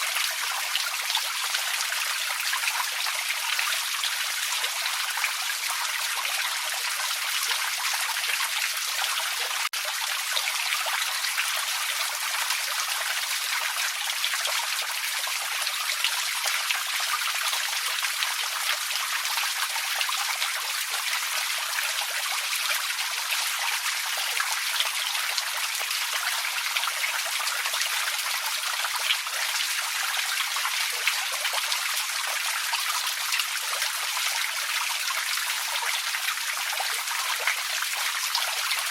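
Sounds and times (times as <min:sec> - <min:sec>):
creek trickling over stones: 0:00.0 - 0:38.9.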